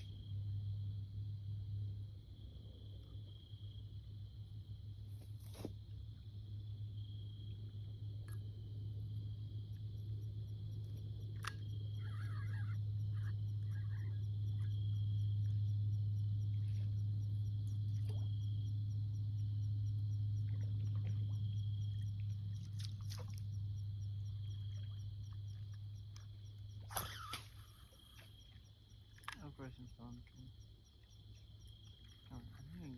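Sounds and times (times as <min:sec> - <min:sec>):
insects trilling: 0:02.4 - 0:32.9.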